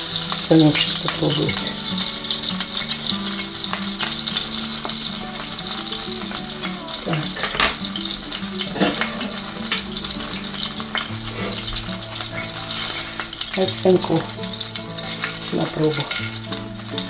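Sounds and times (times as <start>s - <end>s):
patties sizzling in hot oil: 0.0s - 17.0s.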